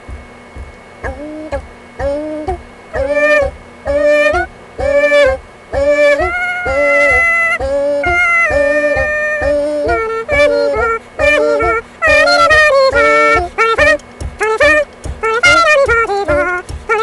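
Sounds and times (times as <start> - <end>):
steady low drone: 0.0 - 14.8
person yodel singing: 1.0 - 17.0.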